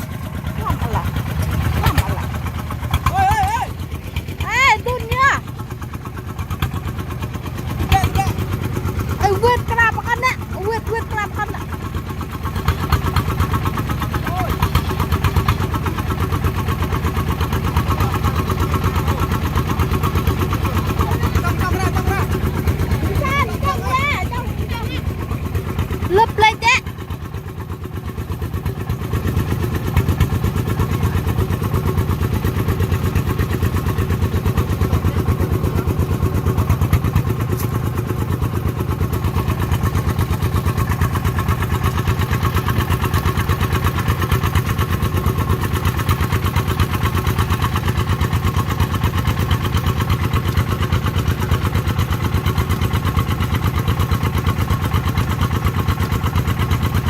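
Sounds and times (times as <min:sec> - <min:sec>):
farm vehicle diesel engine: 0:00.0 - 0:57.0.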